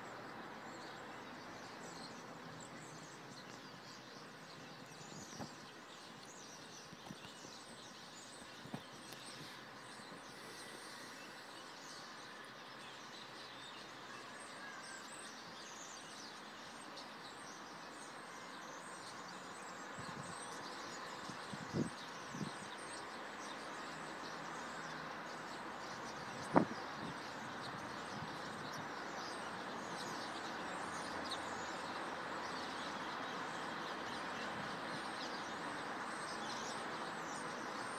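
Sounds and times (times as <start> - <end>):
steady background hiss: 0.0 - 37.9.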